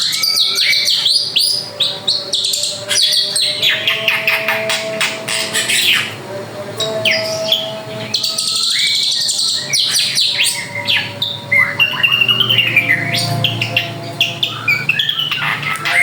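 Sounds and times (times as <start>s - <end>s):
drongo singing: 0.0s - 16.0s.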